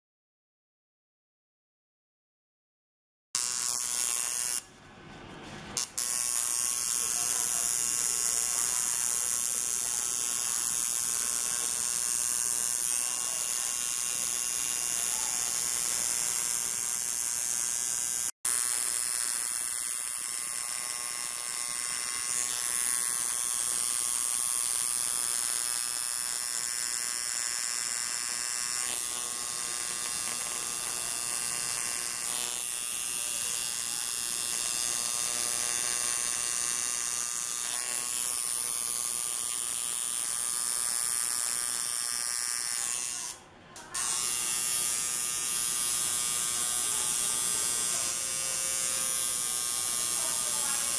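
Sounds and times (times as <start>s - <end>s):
tattoo machine buzzing: 3.4s - 4.7s, 5.8s - 50.9s.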